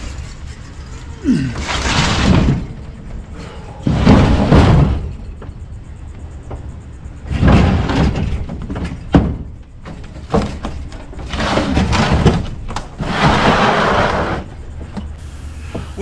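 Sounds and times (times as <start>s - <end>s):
metal cabinet thunking and scraping: 0.1s - 5.6s, 7.2s - 15.0s.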